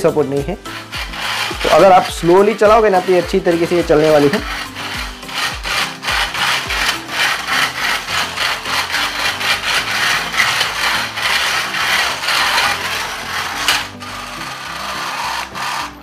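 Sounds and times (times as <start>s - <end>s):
toy car motors whirring: 0.6s - 16.0s
cars rattling on plastic track: 0.8s - 16.0s.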